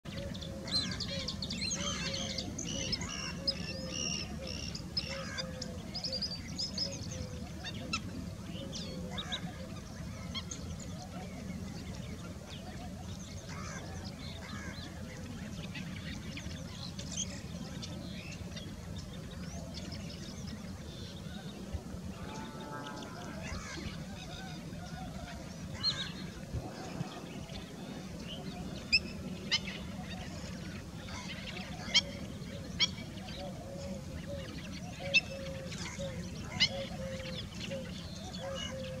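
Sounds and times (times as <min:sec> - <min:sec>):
waterbirds calling: 0:00.2 - 0:39.0.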